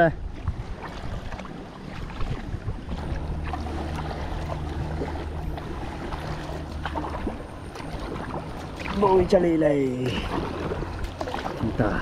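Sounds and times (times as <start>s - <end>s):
paddle splashing and dripping water: 0.0s - 12.0s
steady low hum: 0.1s - 12.0s.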